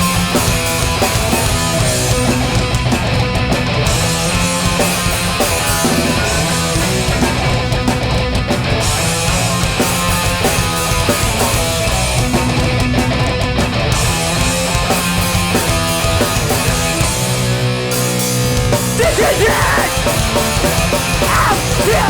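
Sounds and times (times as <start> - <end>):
punk band playing loud: 0.0 - 22.0.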